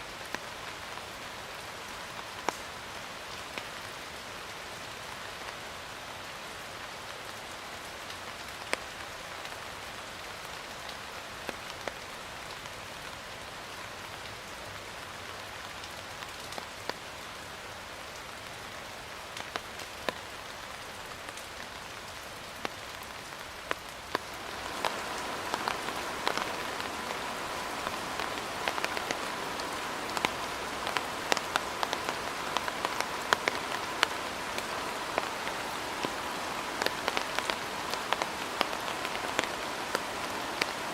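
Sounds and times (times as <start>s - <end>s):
raindrops ticking on a surface: 0.0s - 40.9s
steady rain: 0.0s - 40.9s.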